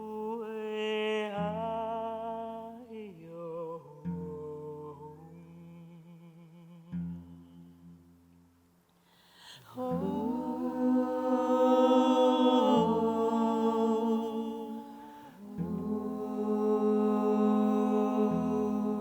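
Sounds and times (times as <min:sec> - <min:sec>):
vocal ensemble humming a lullaby: 0:00.0 - 0:07.6, 0:09.3 - 0:19.0.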